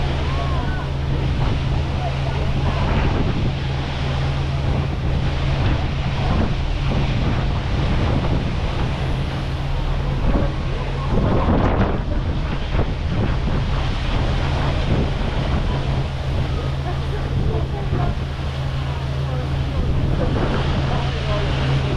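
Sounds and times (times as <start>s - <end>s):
boat engine humming: 0.0s - 21.9s
wind buffeting microphone: 0.0s - 21.9s.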